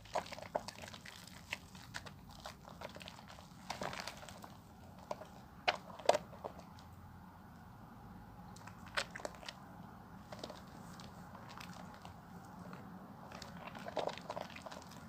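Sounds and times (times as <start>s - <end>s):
soap lather crackling and squishing: 0.0s - 6.9s, 8.5s - 15.0s.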